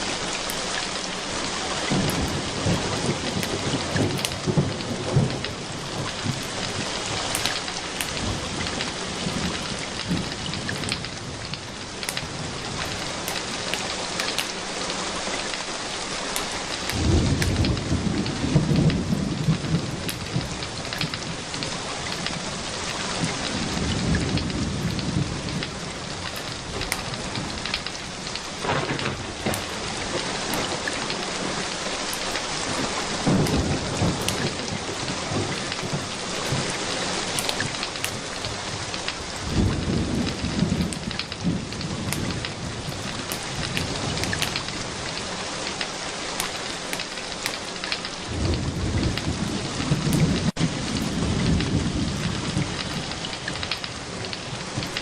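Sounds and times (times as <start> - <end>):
steady rain: 0.0 - 55.0
low rolls of thunder: 1.8 - 13.7, 16.9 - 31.8, 32.5 - 45.2, 48.2 - 55.0.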